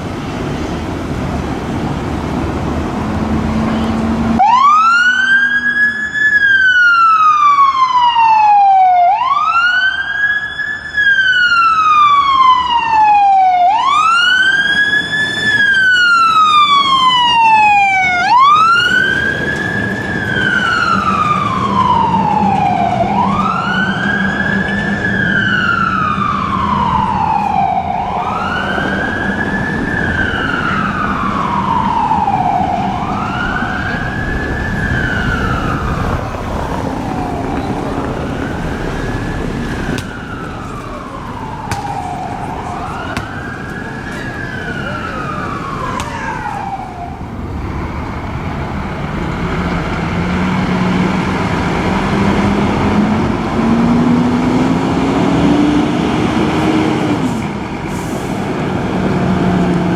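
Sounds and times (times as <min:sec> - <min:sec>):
fire engine siren wailing: 0:00.0 - 0:59.9.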